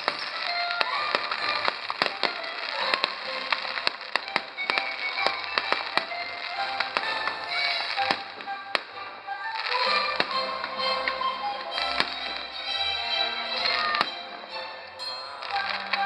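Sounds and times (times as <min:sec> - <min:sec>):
fireworks bangs and crackles: 0:00.0 - 0:14.4, 0:15.1 - 0:16.0
music playing: 0:00.0 - 0:16.0.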